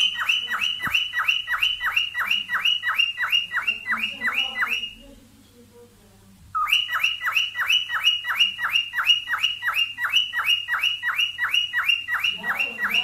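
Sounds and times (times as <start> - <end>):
cockatiel chirping: 0.0 - 5.1, 6.6 - 13.0.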